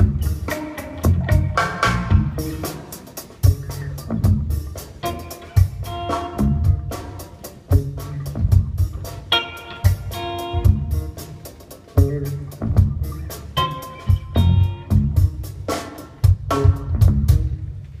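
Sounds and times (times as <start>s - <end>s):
electric bass: 0.0s - 2.8s, 3.4s - 18.0s
electric guitar lead: 0.0s - 17.7s
drum kit hits and cymbals: 0.0s - 18.0s.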